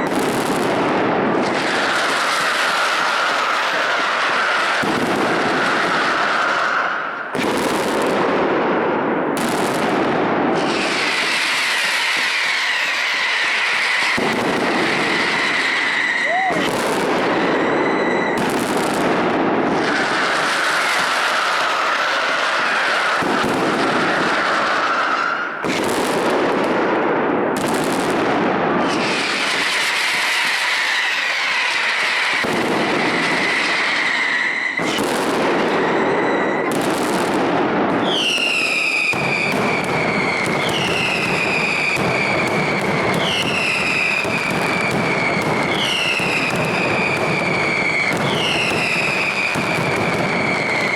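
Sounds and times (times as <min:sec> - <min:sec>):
fireworks barrage: 0:00.0 - 0:50.9
whistling fireworks: 0:00.0 - 0:50.9.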